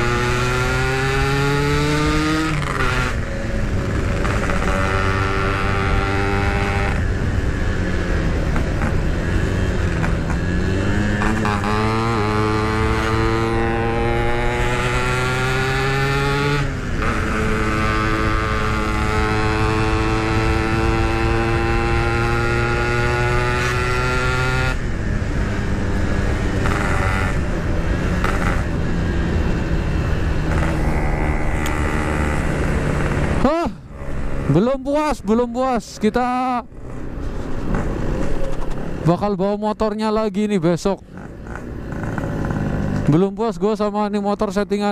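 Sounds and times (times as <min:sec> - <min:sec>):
road and wind noise: 0:00.0 - 0:44.9
two-stroke motorcycle revving: 0:00.0 - 0:44.9.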